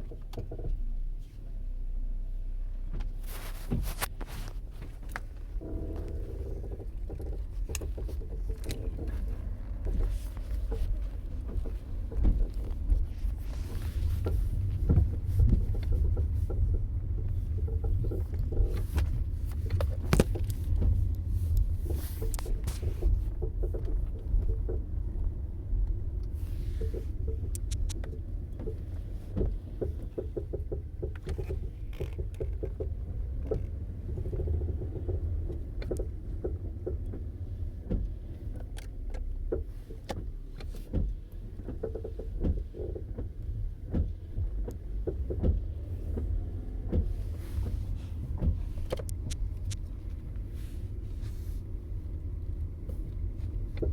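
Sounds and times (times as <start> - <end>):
car rumbling on the move: 0.0 - 53.9
suspension knocks and clunks: 2.8 - 53.9.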